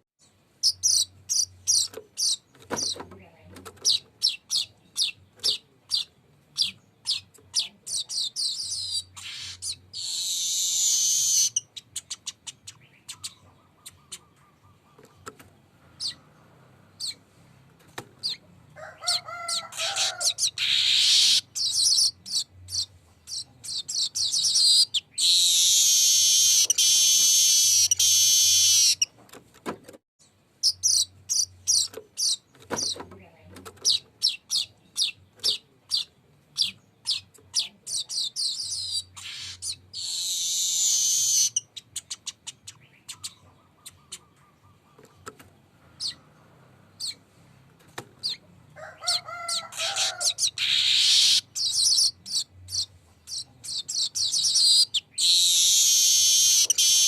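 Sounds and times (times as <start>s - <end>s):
weaver bird singing: 0.6s - 15.3s, 16.0s - 16.3s, 19.5s - 29.1s, 30.6s - 33.0s, 33.8s - 45.3s, 49.1s - 57.0s.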